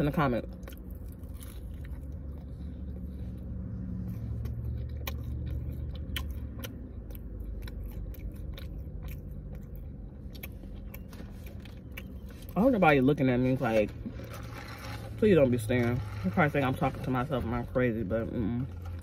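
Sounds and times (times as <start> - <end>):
low steady hum: 0.0 - 19.0
person chewing food: 0.4 - 19.0.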